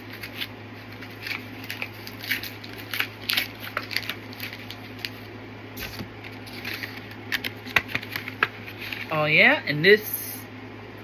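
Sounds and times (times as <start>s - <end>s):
plastic packaging crinkling and tearing: 0.0s - 9.1s
steady low hum: 0.0s - 11.0s.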